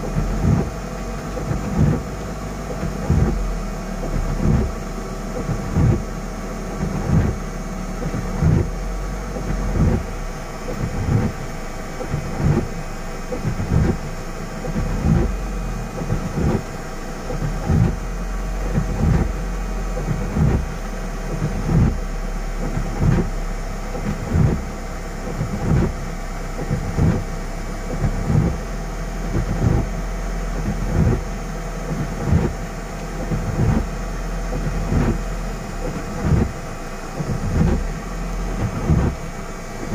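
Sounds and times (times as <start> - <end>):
idling engine hum: 0.0 - 39.9
windscreen wipers knocking: 0.0 - 39.9.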